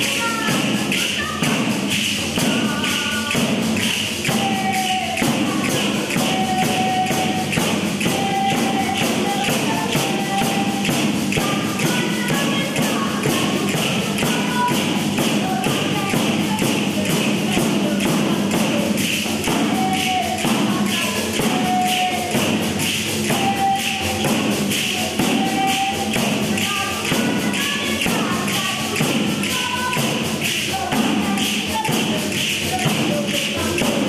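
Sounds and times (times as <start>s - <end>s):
folk dance music: 0.0s - 34.0s
jingled frame drums beating: 0.0s - 34.0s.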